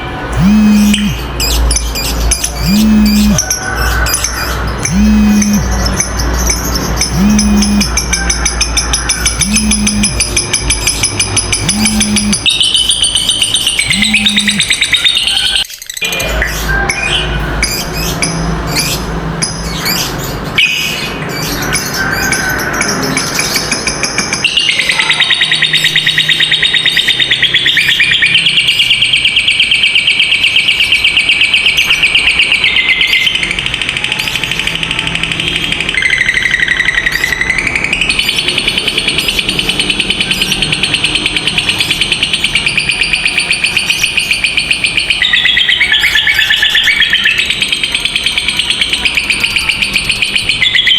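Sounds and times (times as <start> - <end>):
bird chattering and trilling: 0.3 - 50.9.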